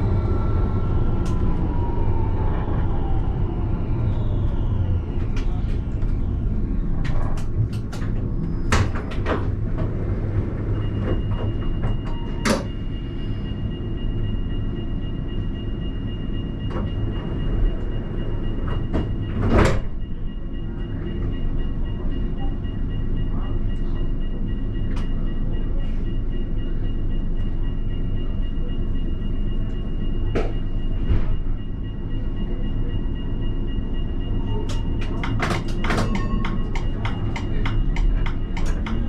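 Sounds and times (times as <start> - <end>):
tram low rumble: 0.0 - 39.0.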